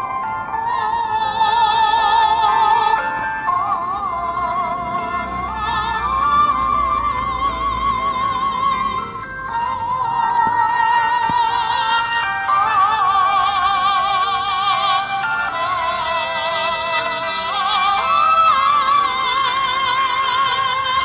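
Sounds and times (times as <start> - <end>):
musical accompaniment: 0.0 - 21.0.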